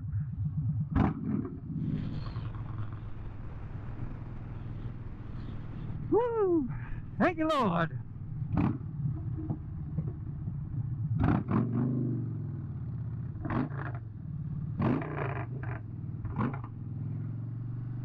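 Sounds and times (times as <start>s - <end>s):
motorcycle engine running: 1.0s - 18.0s.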